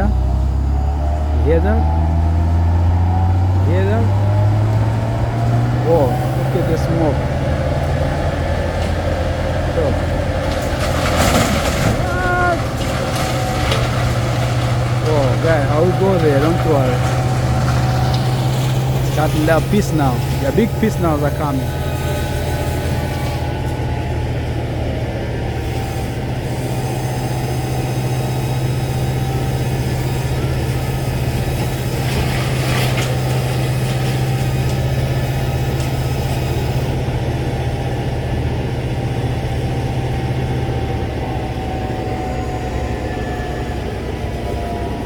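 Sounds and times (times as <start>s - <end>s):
wood chipper diesel engine running: 0.0s - 45.0s.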